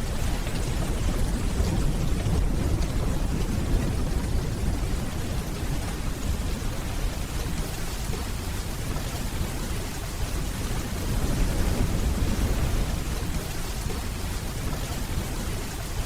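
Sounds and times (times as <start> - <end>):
distant thunder rumbling: 0.0 - 15.7
steady rainfall: 0.0 - 16.0.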